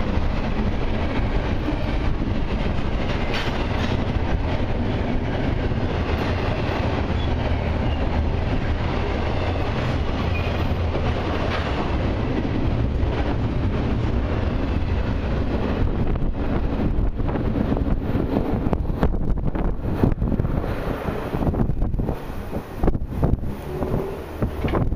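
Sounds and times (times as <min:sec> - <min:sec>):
freight train wheels rumbling on rail: 0:00.0 - 0:24.9.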